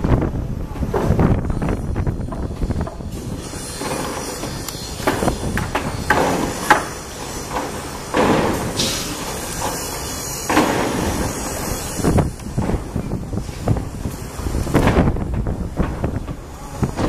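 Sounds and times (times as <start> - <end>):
rough surges of machine noise: 0.0 - 17.0
excavator clanks and knocks: 0.7 - 17.0.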